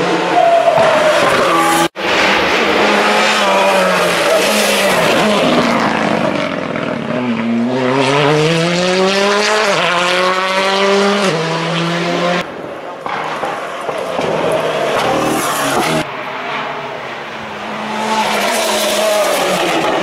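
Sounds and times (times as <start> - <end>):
rally car engines at full throttle: 0.0 - 20.0.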